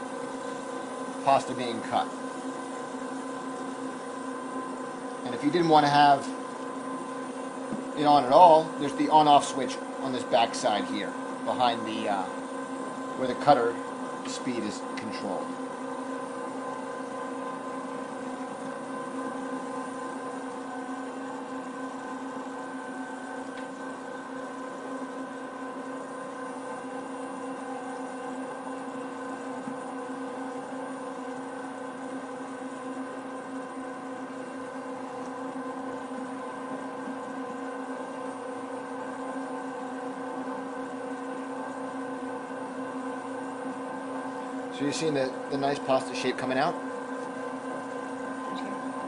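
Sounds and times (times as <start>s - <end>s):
electric motor hum: 0.0s - 49.0s.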